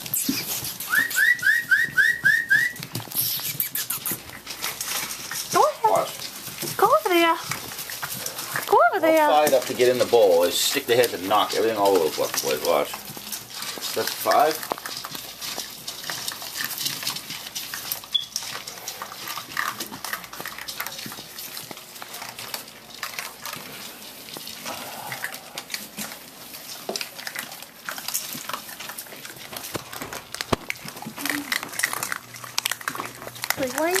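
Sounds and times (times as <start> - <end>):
pellets clattering against bowl: 0.0 - 34.0
puppies crunching dry kibble: 0.0 - 34.0.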